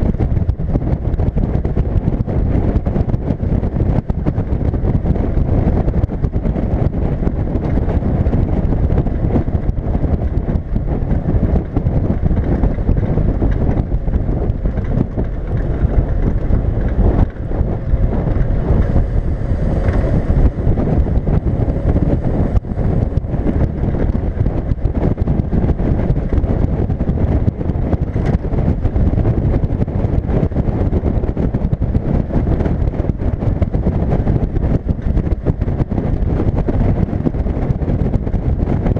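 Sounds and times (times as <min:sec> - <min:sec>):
engine and road rumble: 0:00.0 - 0:38.9
wind buffeting microphone: 0:00.0 - 0:38.9.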